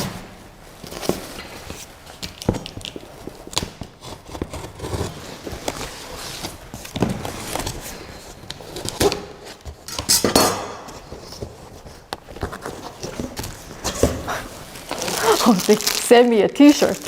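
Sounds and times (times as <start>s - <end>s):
cardboard scraping: 0.0s - 9.9s, 10.9s - 16.1s.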